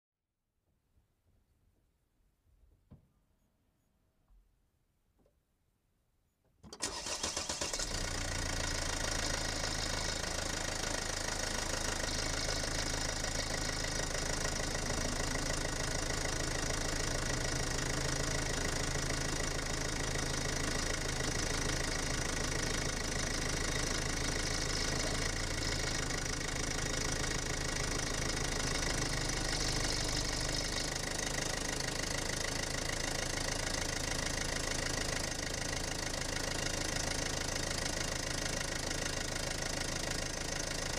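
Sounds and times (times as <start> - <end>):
diesel engine starting and running: 6.7 - 40.9.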